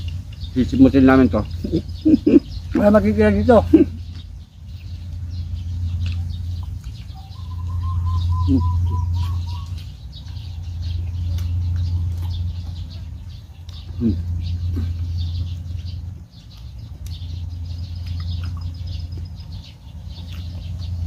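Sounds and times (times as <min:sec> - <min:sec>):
eating with hands clicks and smacks: 0:00.0 - 0:03.2, 0:03.8 - 0:21.0
distant bird call: 0:00.0 - 0:21.0
low hum: 0:00.0 - 0:21.0.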